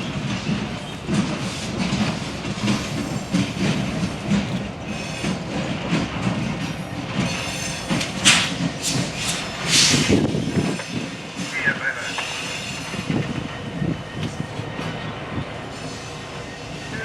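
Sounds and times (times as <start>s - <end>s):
train wheels clicking over rail joints: 0.0s - 17.0s.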